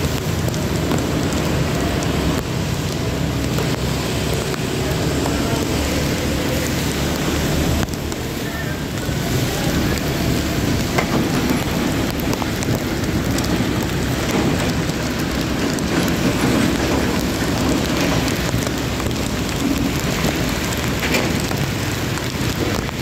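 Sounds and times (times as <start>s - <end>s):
rain falling: 0.0s - 23.0s
raindrops ticking: 0.0s - 23.0s
tyres hissing on wet road: 0.0s - 23.0s.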